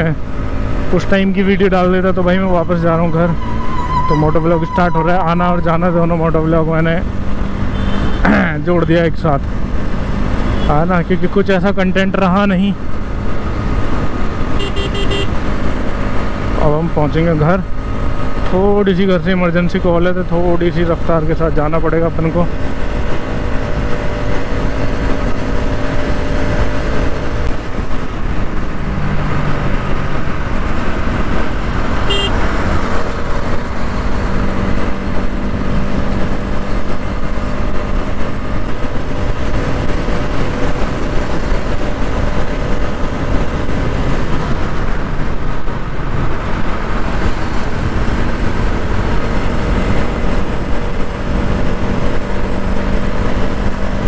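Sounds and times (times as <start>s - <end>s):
motorcycle engine: 0.0s - 18.9s, 19.9s - 54.0s.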